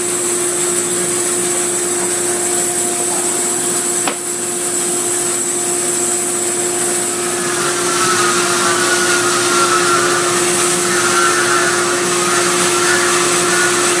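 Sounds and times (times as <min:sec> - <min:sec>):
high wavering whine: 0:00.0 - 0:14.0
sawmill motor hum: 0:00.0 - 0:14.0.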